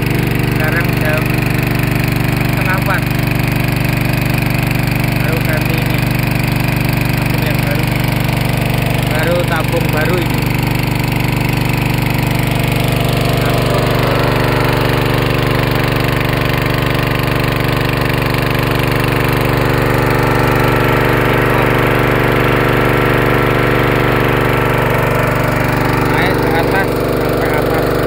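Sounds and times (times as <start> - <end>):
water pump engine running: 0.0 - 28.0.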